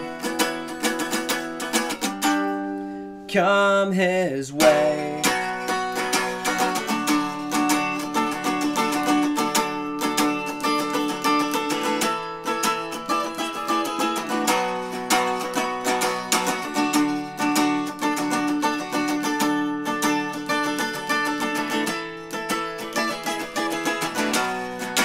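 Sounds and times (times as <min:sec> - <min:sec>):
electric guitar playing: 0:00.0 - 0:03.3, 0:04.6 - 0:25.0.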